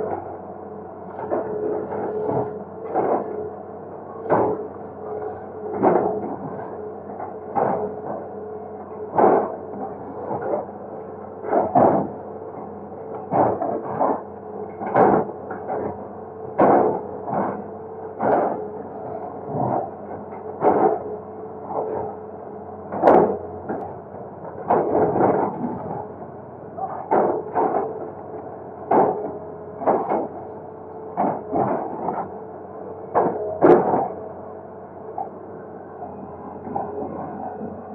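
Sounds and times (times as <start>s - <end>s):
excavator running: 0.0s - 37.9s.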